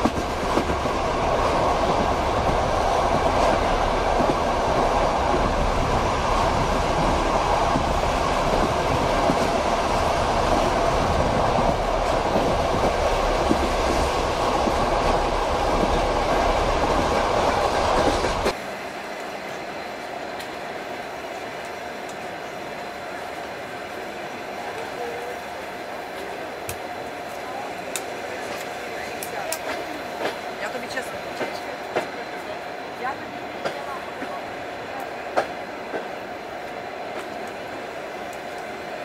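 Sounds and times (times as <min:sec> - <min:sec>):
train wheels rolling on rails: 0:00.0 - 0:39.0.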